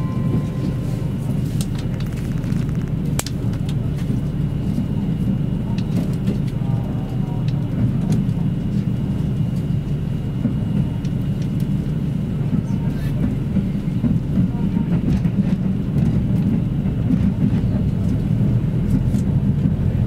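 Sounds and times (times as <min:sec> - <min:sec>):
train engine and wheels rumbling: 0:00.0 - 0:20.0.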